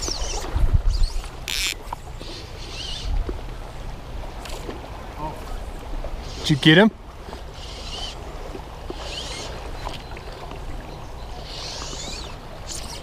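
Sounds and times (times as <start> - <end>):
river current rushing: 0.0 - 13.0.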